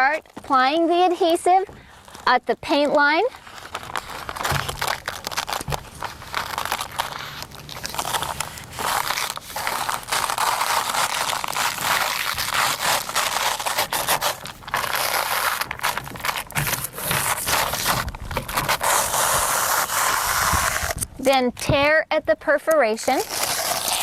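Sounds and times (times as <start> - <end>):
adhesive film crackling: 0.0 - 21.3, 23.0 - 24.0.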